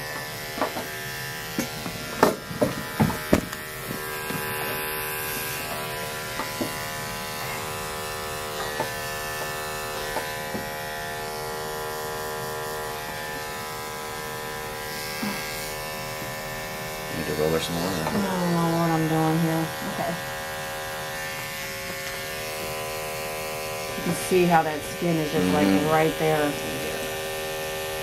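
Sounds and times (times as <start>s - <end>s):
electric clippers buzzing: 0.0s - 28.0s.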